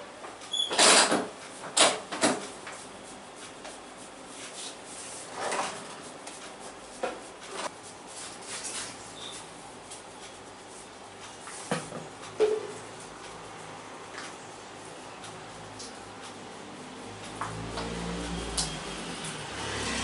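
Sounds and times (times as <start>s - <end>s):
hands rubbing and patting hair: 1.5s - 19.4s.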